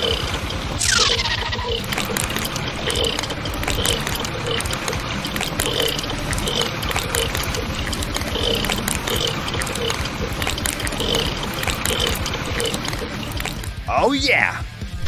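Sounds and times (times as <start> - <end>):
construction vehicle engine rattle: 0.0 - 13.8.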